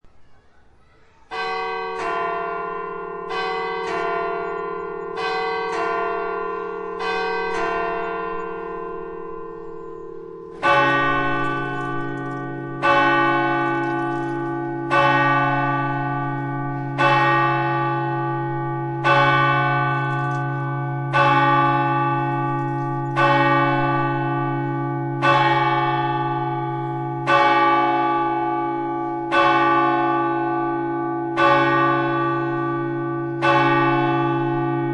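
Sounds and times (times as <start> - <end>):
deep church bell striking: 1.3 - 34.9
higher church bell ringing: 1.3 - 34.9.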